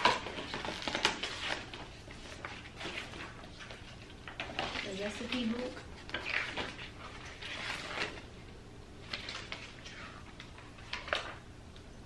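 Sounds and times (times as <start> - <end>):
paper and cardboard rustling: 0.0 - 8.4, 9.0 - 11.4.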